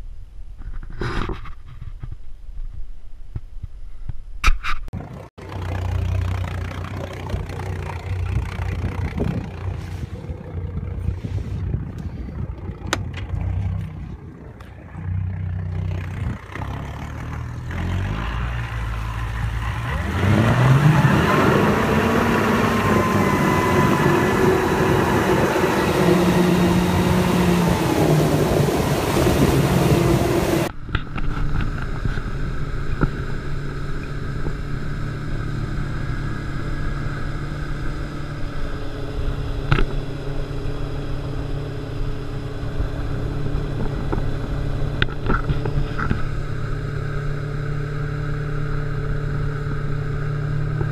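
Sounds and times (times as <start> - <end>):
outboard engine accelerating: 4.9 - 50.9
outboard engine running steadily: 5.0 - 17.5, 20.7 - 50.9.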